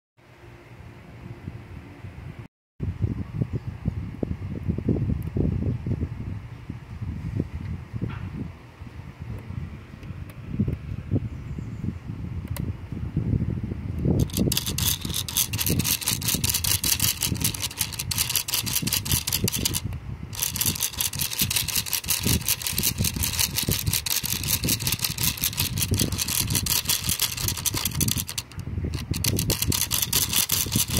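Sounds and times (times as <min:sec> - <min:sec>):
small electric fan whirring: 0:03.8 - 0:30.9.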